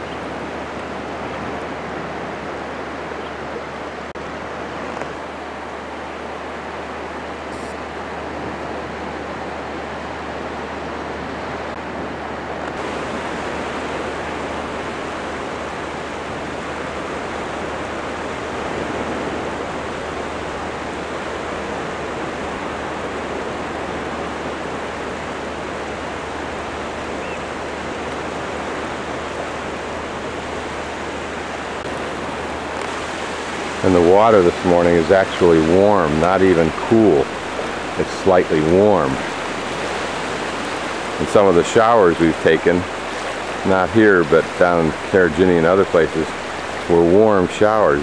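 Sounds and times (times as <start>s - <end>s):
surf washing up beach: 0.0s - 48.0s.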